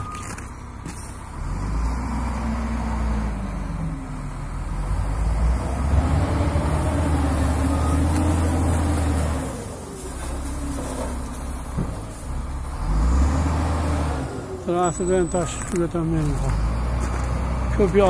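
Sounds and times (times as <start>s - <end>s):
wheel loader diesel engine: 0.0s - 18.0s.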